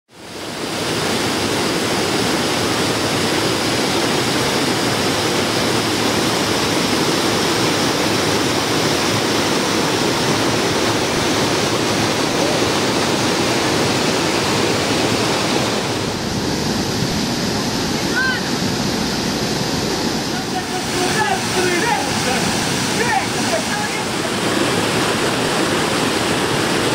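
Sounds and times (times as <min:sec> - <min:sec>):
river rushing over boulders: 0:00.1 - 0:26.9.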